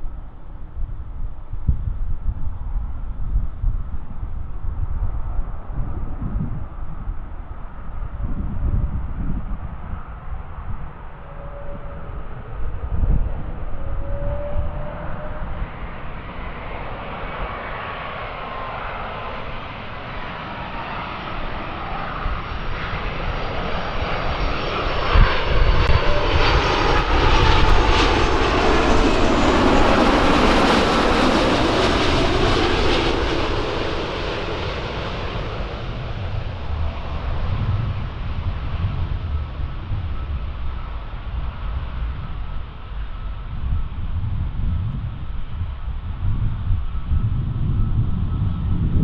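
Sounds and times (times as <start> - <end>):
jet airliner passing: 0.0 - 49.0.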